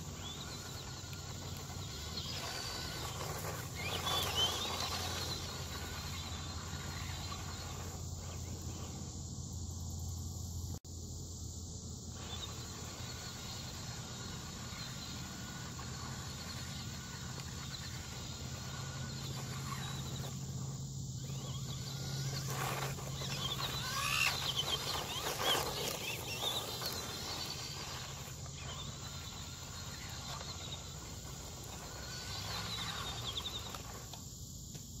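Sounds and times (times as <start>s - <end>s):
toy truck electric motor whining: 0.0s - 9.2s, 12.1s - 34.8s
steady low hum: 0.0s - 35.0s.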